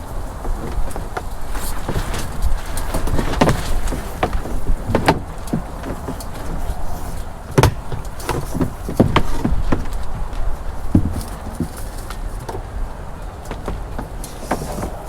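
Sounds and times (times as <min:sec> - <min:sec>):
irregular knocks and clunks: 0:00.1 - 0:15.0.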